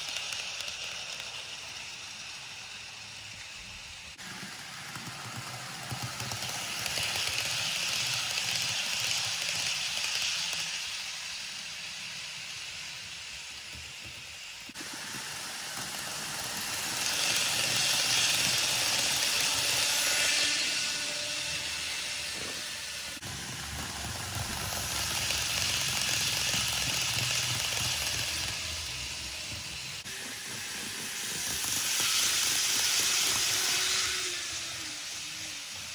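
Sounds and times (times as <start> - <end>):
model trains whirring past: 0.0 - 35.9.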